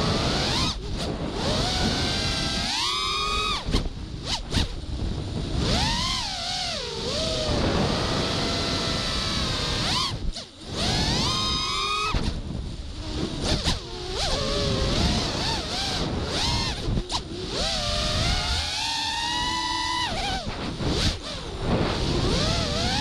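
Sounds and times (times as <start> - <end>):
drone motors whining: 0.0 - 23.0
wind rumble: 0.0 - 23.0.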